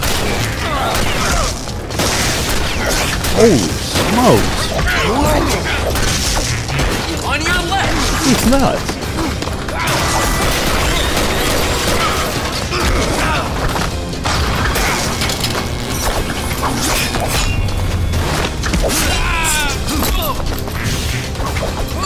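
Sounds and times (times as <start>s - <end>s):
film music score: 0.0s - 22.0s.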